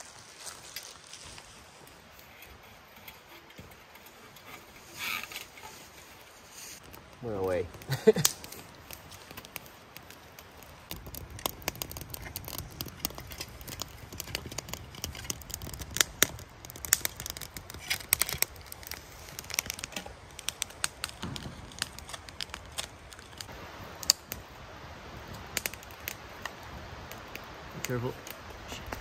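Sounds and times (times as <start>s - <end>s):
wood fire crackling in a stove: 0.0s - 29.0s
fire pops and snaps: 3.0s - 29.0s.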